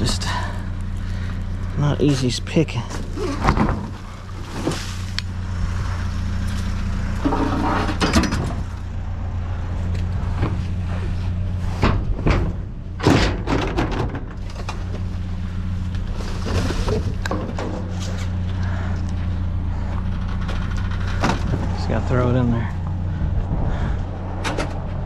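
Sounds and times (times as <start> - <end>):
junk clanking and rattling: 0.0 - 25.0
steady low hum: 0.0 - 25.0.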